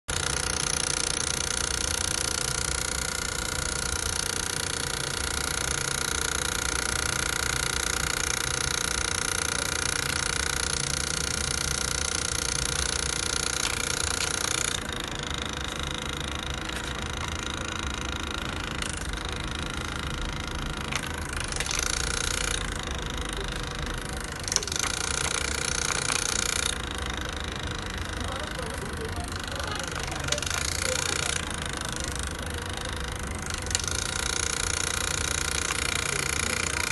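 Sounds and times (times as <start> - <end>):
printer whirring: 0.1 - 36.9.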